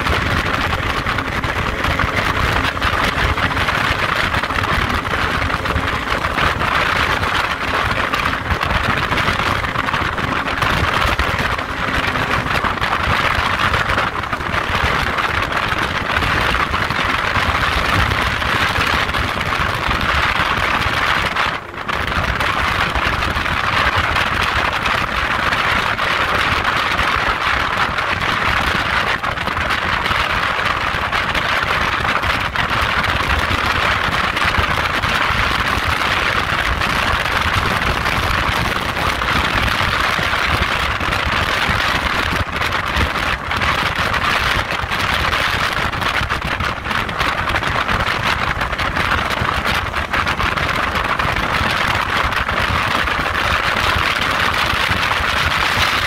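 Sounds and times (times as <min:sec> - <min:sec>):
motorboat running at high speed: 0:00.0 - 0:56.0.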